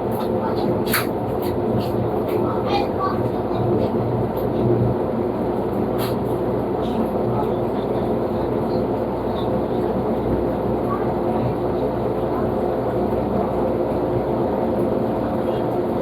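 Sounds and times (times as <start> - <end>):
faint background voices: 0.0 - 4.7, 6.8 - 16.0.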